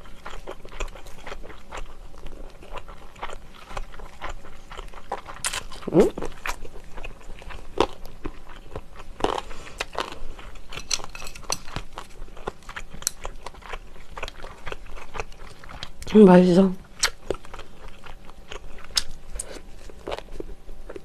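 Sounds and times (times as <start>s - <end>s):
chewing crunchy cartilage: 0.0s - 16.2s, 16.8s - 21.0s.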